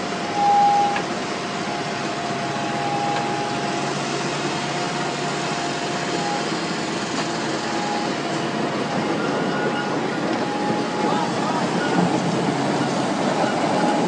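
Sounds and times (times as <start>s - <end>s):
heavy truck engine: 0.0s - 14.0s.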